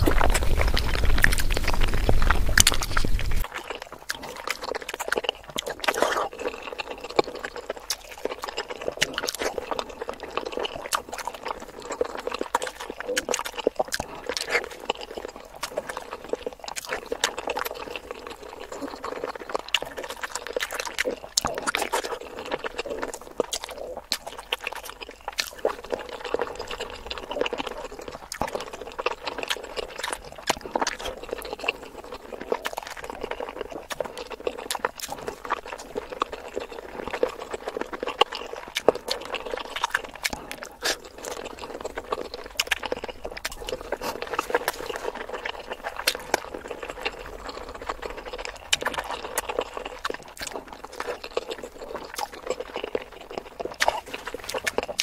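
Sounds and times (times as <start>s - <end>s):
wet chewing and lip smacking: 0.0s - 55.0s.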